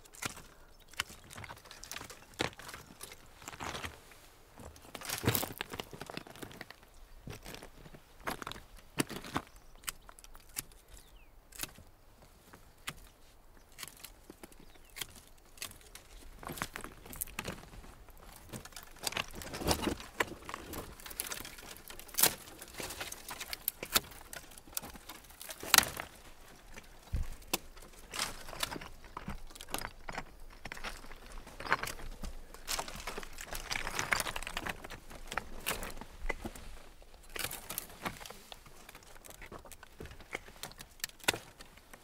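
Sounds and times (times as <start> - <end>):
footsteps on loose stone: 0.0 - 10.7, 13.8 - 42.0
dry canes rustling and crackling: 0.0 - 11.8, 12.8 - 42.0.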